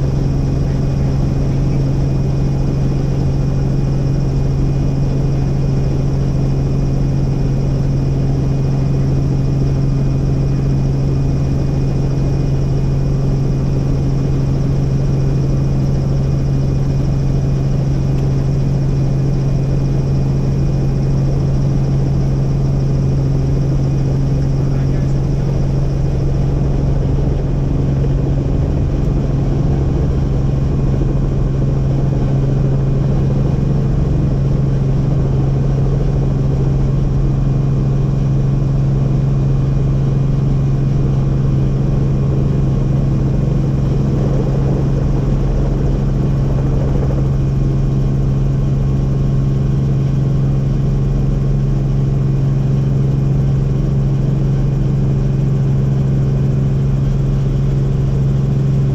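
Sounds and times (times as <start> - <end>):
helicopter rotor and engine drone: 0.0 - 58.9.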